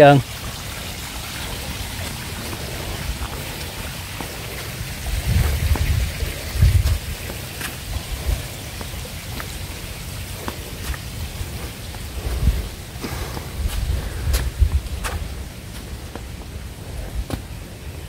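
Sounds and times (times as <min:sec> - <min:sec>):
steady hiss: 0:00.0 - 0:18.0
wind buffeting microphone: 0:00.3 - 0:18.0
soft footsteps on rock path: 0:01.4 - 0:18.0.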